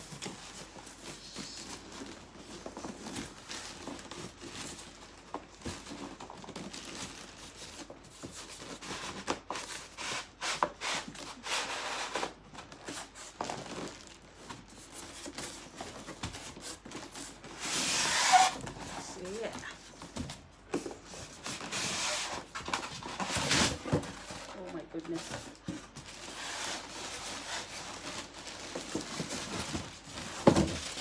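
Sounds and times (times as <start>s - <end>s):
plastic wrapping crinkling: 0.0s - 9.9s, 12.1s - 31.0s
cardboard scraping: 0.0s - 20.3s, 20.9s - 31.0s.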